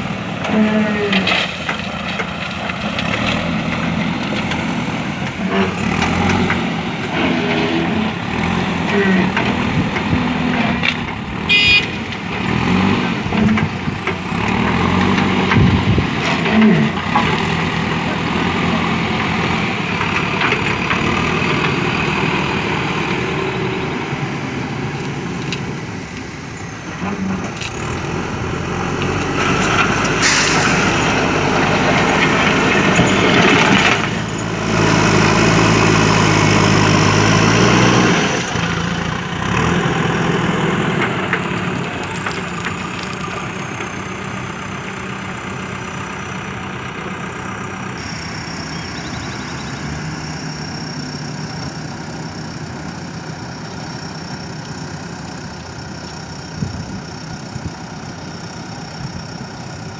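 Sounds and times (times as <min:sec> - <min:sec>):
diesel engine revving: 0:00.0 - 0:59.9.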